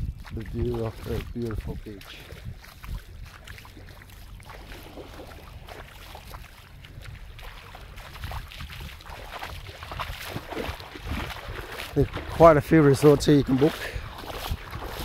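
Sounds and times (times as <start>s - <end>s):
water lapping at shore: 0.0s - 15.0s
wind on microphone: 0.0s - 15.0s.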